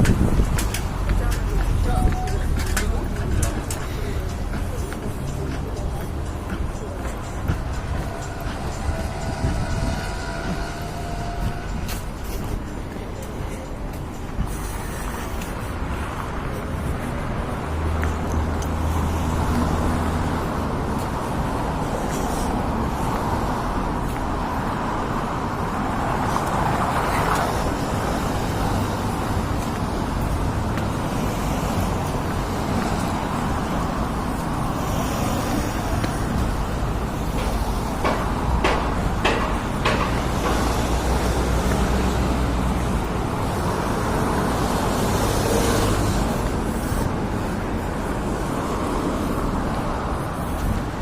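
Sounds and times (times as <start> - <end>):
city street traffic: 0.0 - 51.0.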